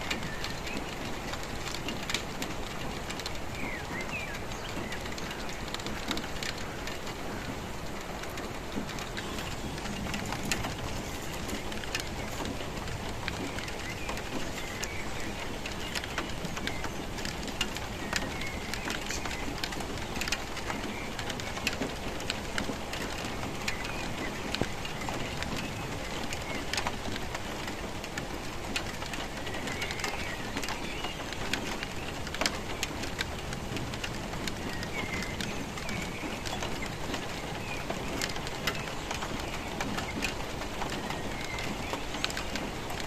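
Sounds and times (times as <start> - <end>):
steady rain: 0.0 - 43.0.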